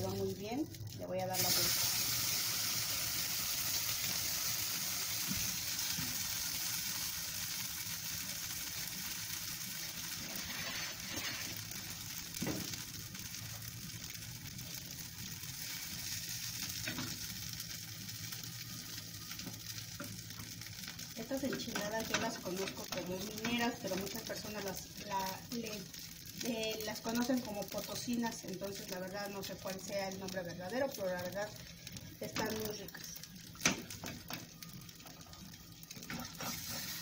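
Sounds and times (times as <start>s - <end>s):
tortilla sizzling in hot oil: 0.0s - 37.0s.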